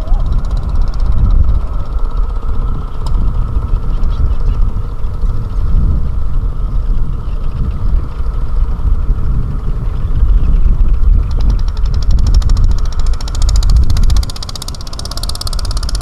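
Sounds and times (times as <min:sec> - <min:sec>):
fast even rattle: 0:00.0 - 0:16.0
tractor engine rumbling: 0:00.0 - 0:16.0.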